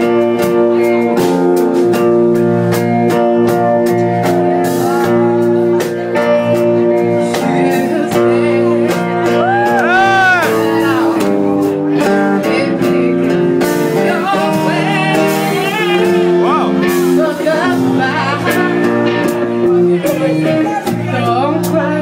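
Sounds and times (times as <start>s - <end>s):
acoustic guitar strumming: 0.0s - 21.9s
woman singing: 0.0s - 22.0s.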